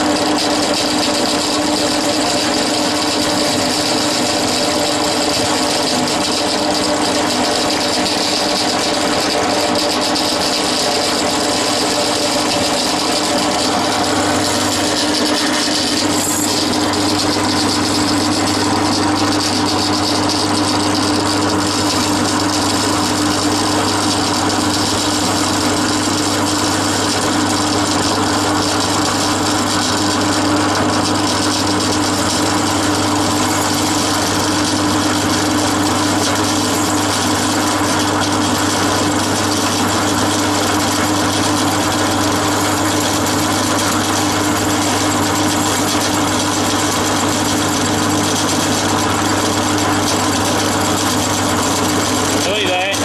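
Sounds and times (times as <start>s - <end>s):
drill press running: 0.0s - 53.0s.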